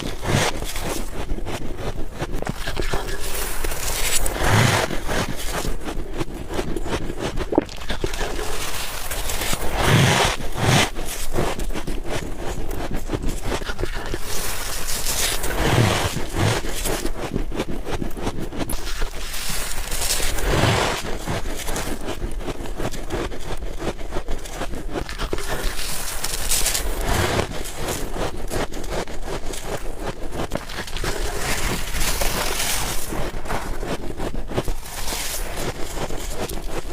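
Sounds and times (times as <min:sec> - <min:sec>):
crunching and chewing ice: 0:00.0 - 0:36.9.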